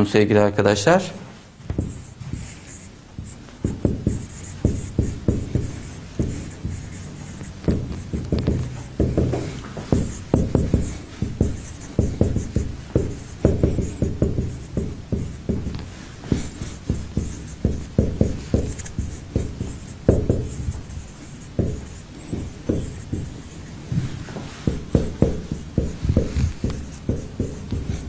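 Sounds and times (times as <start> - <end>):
marker writing on whiteboard: 1.5 - 28.0.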